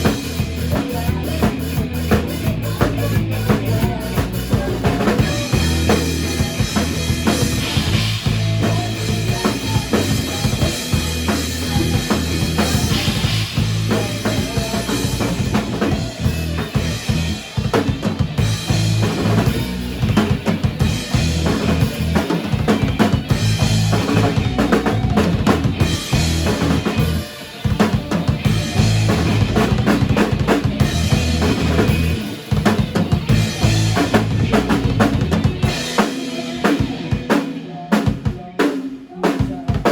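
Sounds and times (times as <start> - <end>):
heavy bass line: 0.0 - 38.0
band music: 0.0 - 39.9
drum kit beat: 0.0 - 39.9.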